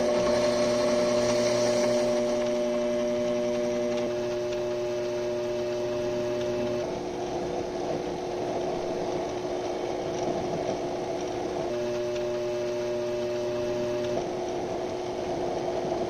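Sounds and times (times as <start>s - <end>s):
machine tool motor humming: 0.0s - 14.6s.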